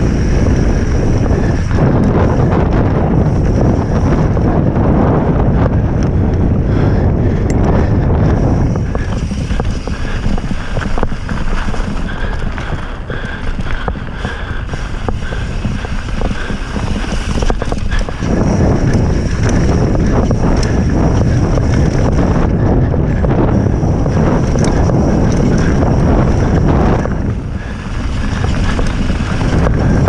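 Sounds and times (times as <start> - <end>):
bike rattling and clicking: 0.0 - 30.0
wind buffeting microphone: 0.0 - 30.0.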